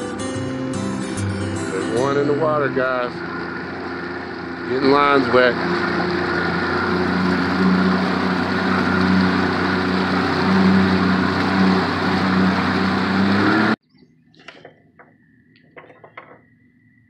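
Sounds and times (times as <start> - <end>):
boat motor running: 0.0 - 13.8
water rushing around hull: 0.0 - 13.8.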